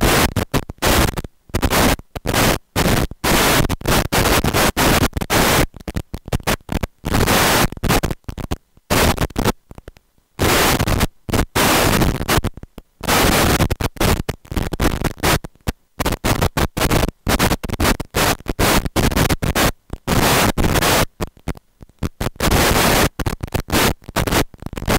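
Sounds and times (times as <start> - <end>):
harsh static noise bursts: 0.0 - 24.9.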